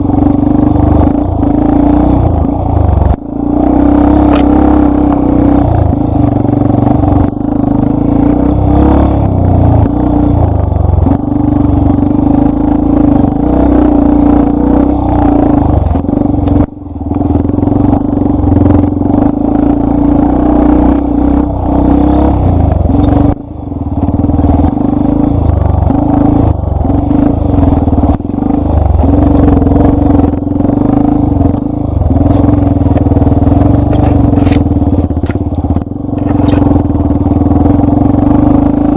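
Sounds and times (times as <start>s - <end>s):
motorcycle engine running under load: 0.0s - 38.9s.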